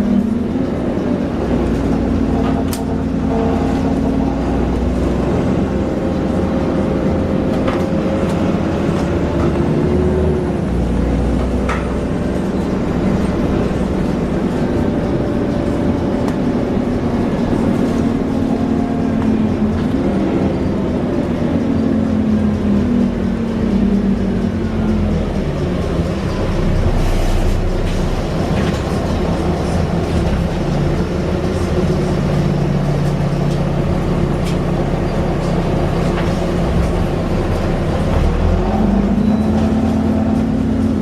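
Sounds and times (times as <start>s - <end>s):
bus engine running: 0.0s - 41.0s.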